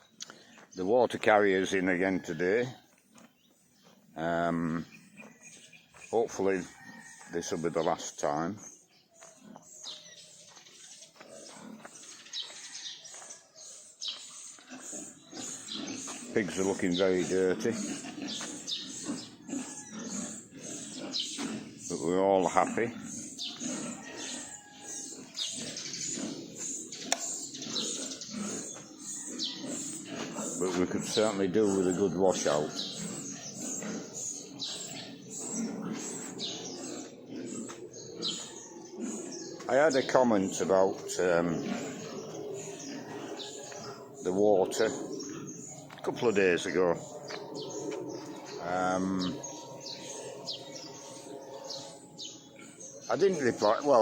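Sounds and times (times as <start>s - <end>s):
high chirping bird calls: 0.0s - 54.0s
pigs grunting: 0.0s - 54.0s.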